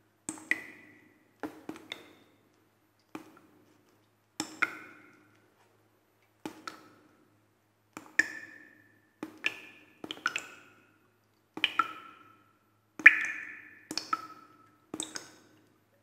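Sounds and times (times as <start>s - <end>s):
water drops dripping in cave: 0.2s - 5.5s, 6.2s - 7.3s, 7.9s - 16.0s.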